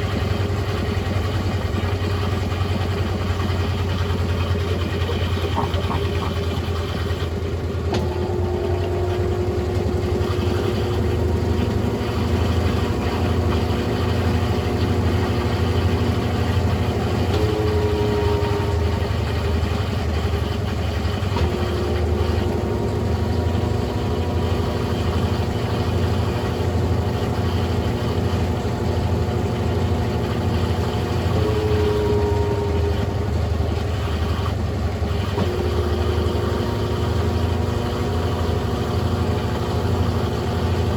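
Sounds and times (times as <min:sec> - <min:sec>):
washing machine motor hum: 0:00.0 - 0:40.9
washing machine whine: 0:00.0 - 0:40.9.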